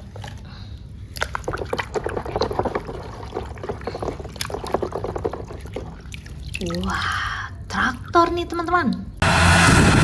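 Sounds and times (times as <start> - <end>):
water splashing and trickling: 1.1 - 9.1.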